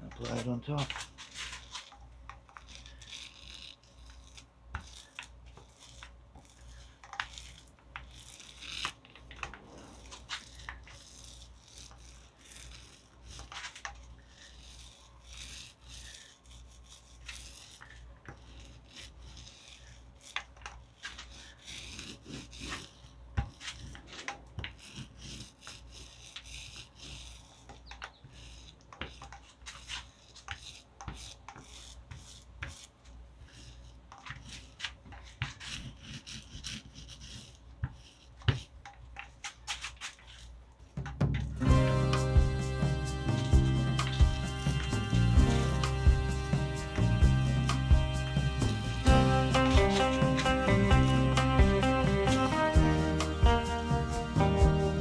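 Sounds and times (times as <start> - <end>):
rubbing and scrubbing strokes: 0.0 - 55.0.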